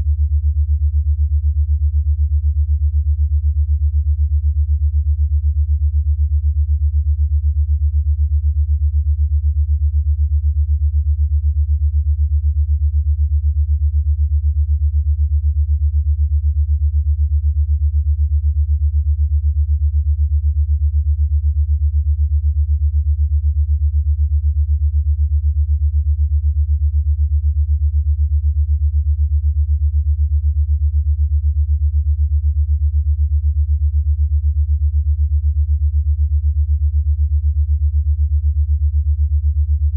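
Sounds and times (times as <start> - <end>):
throbbing low sine tone: 0.0 - 39.9.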